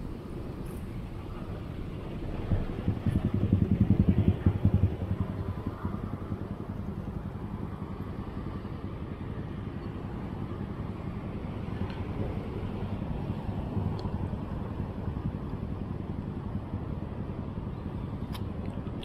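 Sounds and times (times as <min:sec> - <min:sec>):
traffic and road noise: 0:00.0 - 0:19.0.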